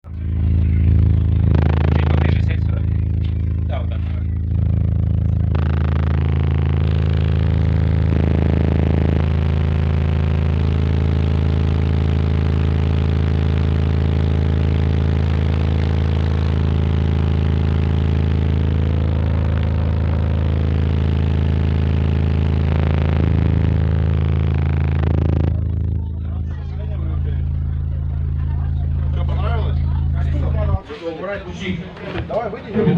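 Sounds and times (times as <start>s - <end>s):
loud deep bass notes: 0.0s - 30.9s.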